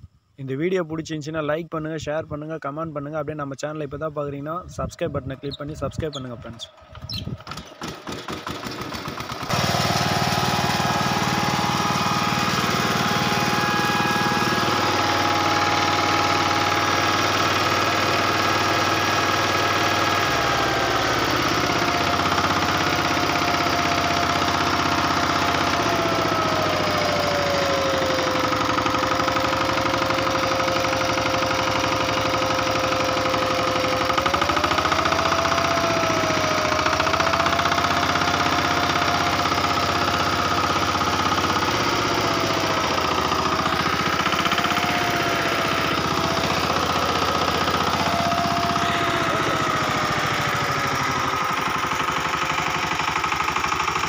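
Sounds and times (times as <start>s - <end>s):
diesel tiller engine running: 5.3s - 54.0s.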